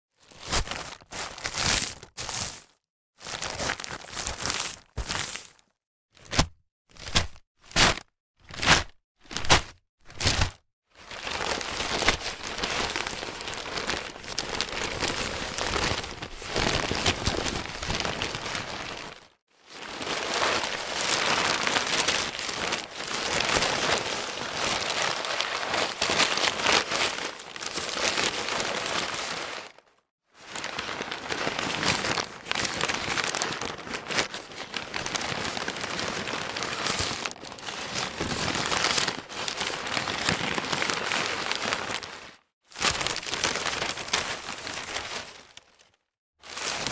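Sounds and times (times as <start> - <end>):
newspaper pages rustling: 0.3 - 5.6, 8.6 - 29.9, 30.5 - 46.9.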